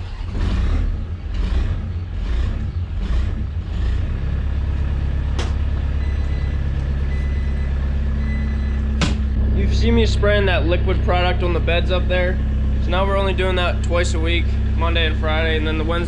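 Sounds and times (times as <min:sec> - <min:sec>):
loader engine running: 0:00.0 - 0:16.0.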